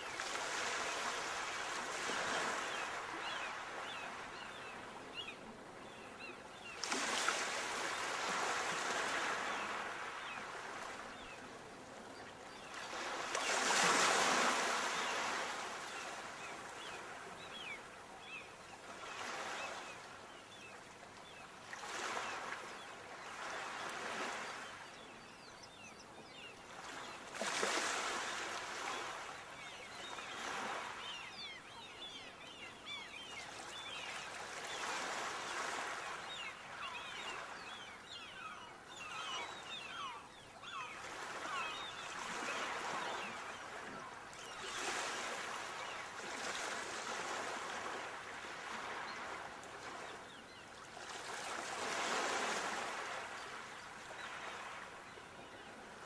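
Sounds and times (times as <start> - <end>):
sea waves breaking on shore: 0.0 - 6.0, 6.6 - 11.9, 12.6 - 20.6, 26.3 - 56.0.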